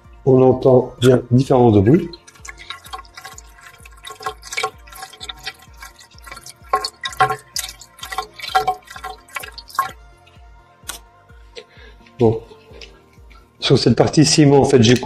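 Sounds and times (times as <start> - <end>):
faint background music with low beat: 0.0 - 15.0
water dripping and splashing in drain pipe: 0.5 - 11.1, 12.4 - 15.0.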